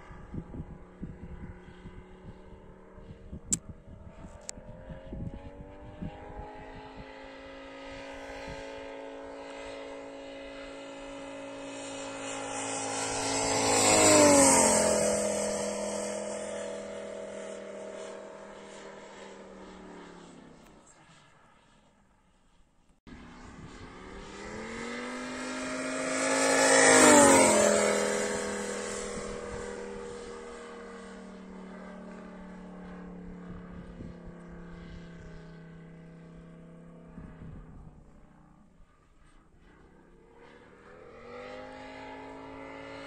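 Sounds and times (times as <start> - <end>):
model plane engine flying past: 0.0 - 43.0.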